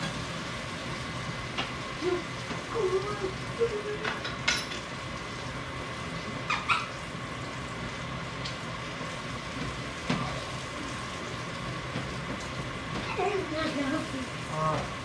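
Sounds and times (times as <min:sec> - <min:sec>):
sauce simmering hiss: 0:00.0 - 0:15.0.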